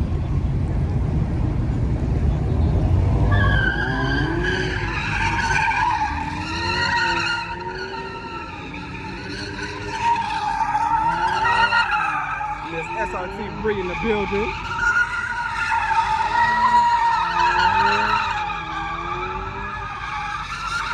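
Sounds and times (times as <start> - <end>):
car engine revving high: 2.8 - 20.9
tyres squealing: 3.3 - 20.9.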